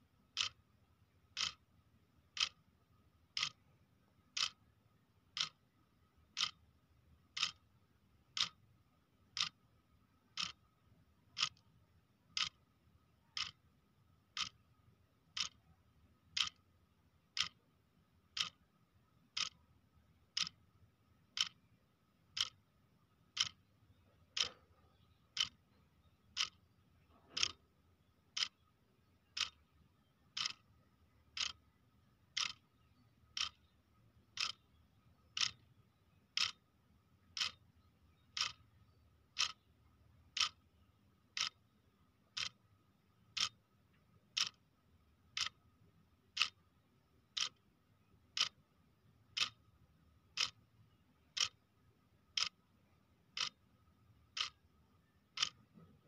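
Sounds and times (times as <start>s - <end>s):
clock ticking: 0.2s - 56.0s.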